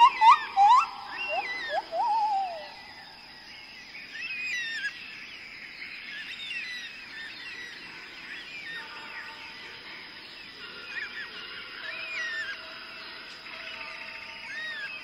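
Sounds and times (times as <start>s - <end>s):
birds twittering: 0.0s - 15.0s.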